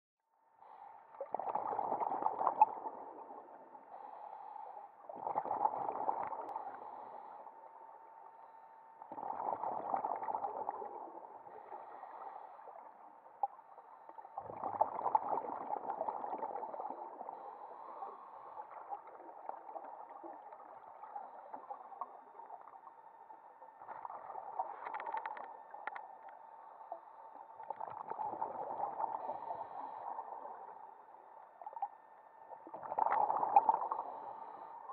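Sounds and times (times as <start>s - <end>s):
faint steady whine: 0.2s - 34.9s
underwater air bubbling: 1.1s - 7.6s, 9.0s - 34.9s.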